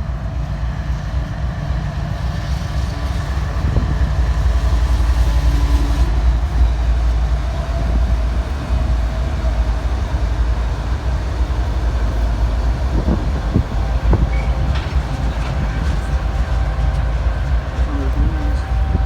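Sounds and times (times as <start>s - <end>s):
freight train rumbling past: 0.0s - 19.0s
train cars clanking: 1.2s - 19.0s.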